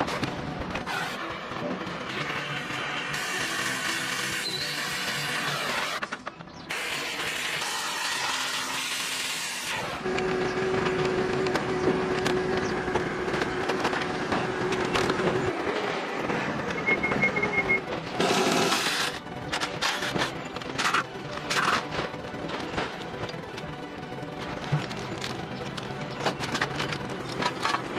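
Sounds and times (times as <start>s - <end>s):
machinery humming: 0.0s - 27.9s.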